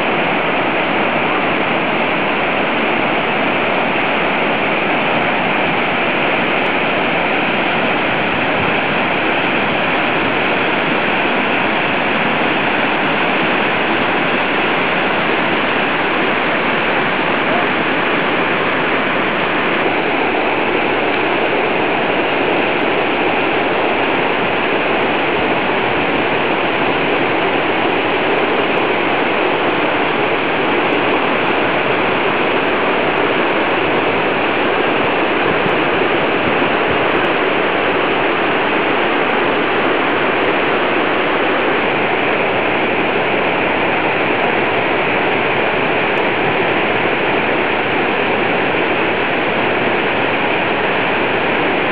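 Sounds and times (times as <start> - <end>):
mountain torrent rushing: 0.0 - 51.9.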